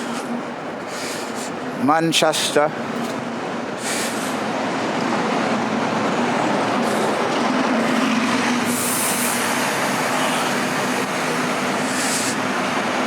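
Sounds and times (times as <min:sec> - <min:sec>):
vehicle rumble and hiss: 0:00.0 - 0:13.0.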